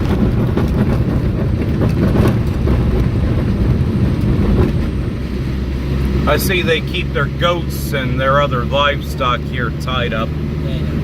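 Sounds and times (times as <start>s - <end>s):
engine and tyre rumble: 0.0s - 11.0s
vehicle knocks and rattles: 0.0s - 11.0s.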